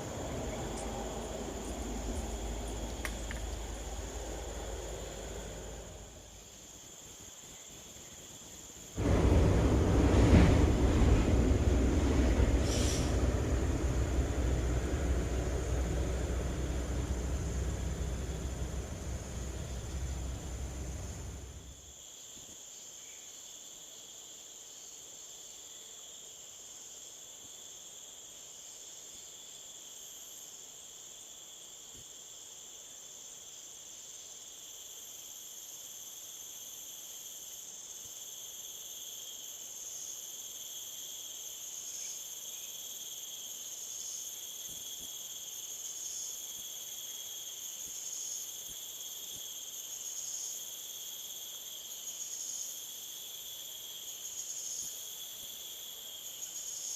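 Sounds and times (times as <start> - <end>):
high pulsing insect call: 0.0 - 56.9
insects chirring: 0.0 - 56.9.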